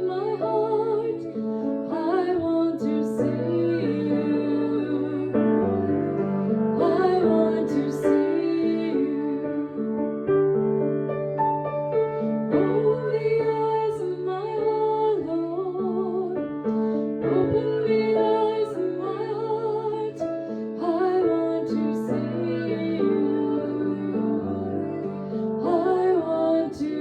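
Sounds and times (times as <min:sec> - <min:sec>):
woman singing a hymn: 0:00.0 - 0:10.0, 0:12.6 - 0:27.0
sustained piano chords: 0:00.0 - 0:27.0.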